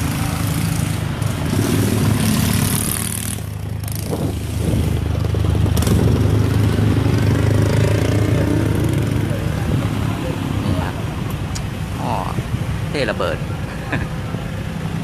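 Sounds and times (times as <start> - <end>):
road noise: 0.0 - 15.0
traffic engine drone: 0.0 - 15.0.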